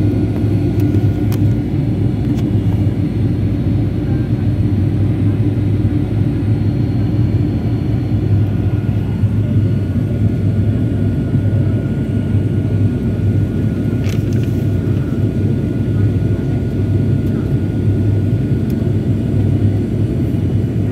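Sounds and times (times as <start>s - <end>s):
jet engine cabin rumble: 0.0s - 20.9s.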